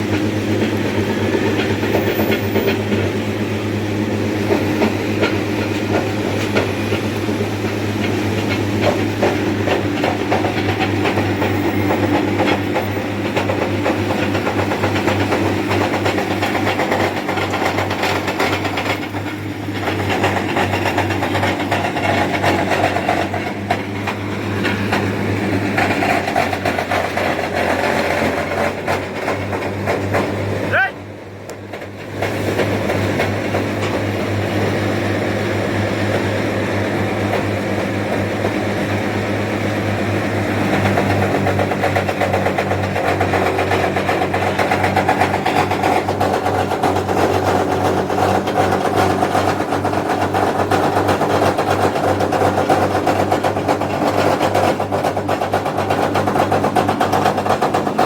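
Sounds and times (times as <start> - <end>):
wood chipper running: 0.0 - 58.0.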